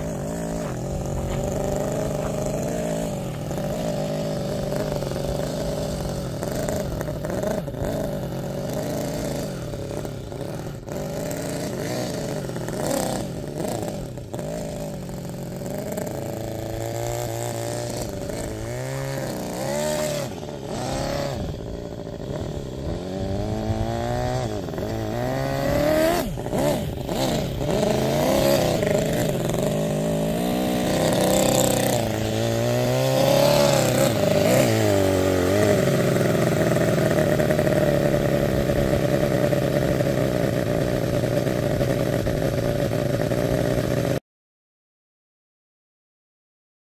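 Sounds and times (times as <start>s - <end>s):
miniature engine revving: 0.0s - 44.2s.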